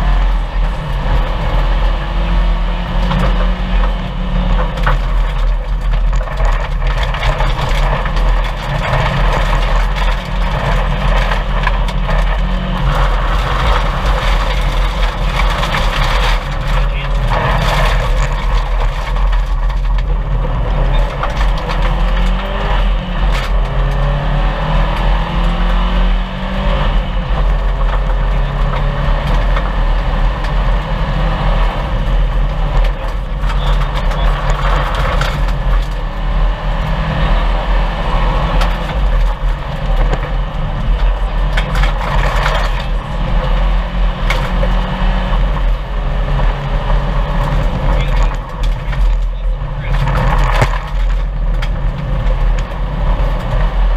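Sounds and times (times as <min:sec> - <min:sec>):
car engine revving hard: 0:00.0 - 0:53.9
road roar: 0:00.0 - 0:53.9.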